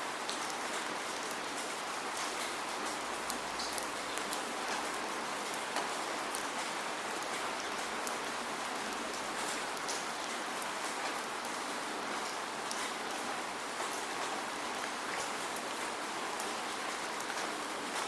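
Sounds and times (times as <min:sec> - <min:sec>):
raindrops pattering on surfaces: 0:00.0 - 0:18.0
steady rain: 0:00.0 - 0:18.0.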